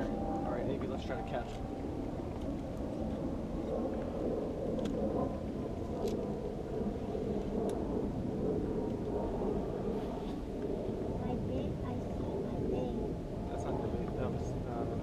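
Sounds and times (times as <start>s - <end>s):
wind and sea rumble: 0.0s - 15.0s.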